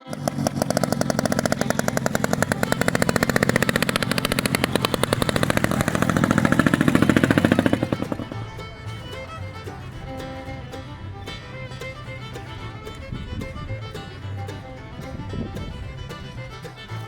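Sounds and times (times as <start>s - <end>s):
snowmobile two-stroke engine running: 0.0s - 17.0s.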